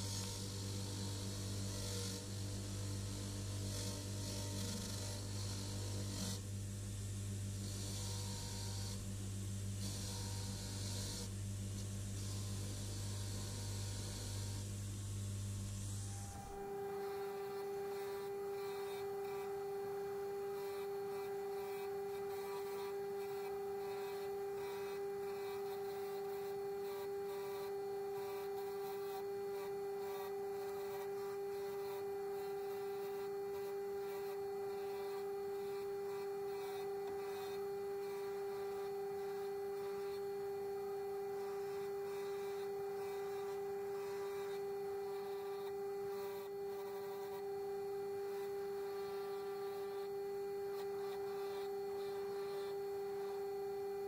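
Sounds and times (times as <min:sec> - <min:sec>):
bench grinder motor hum: 0:00.0 - 0:06.5, 0:07.3 - 0:09.1, 0:09.7 - 0:14.8, 0:15.7 - 0:54.0.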